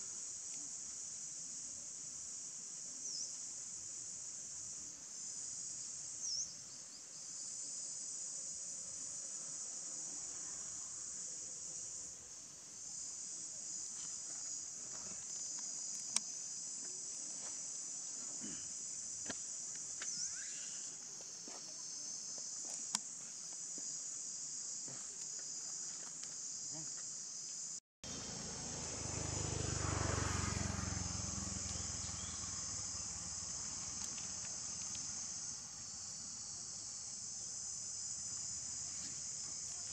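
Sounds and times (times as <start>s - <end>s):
insect chorus chirring: 0.0s - 39.9s.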